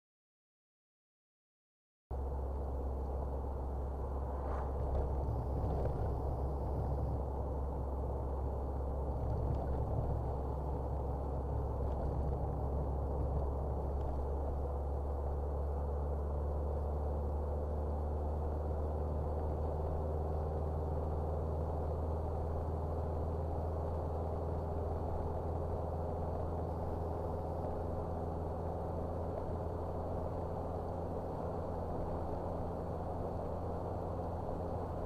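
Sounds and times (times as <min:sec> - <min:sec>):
vehicle engine drone and road noise: 0:02.1 - 0:35.0.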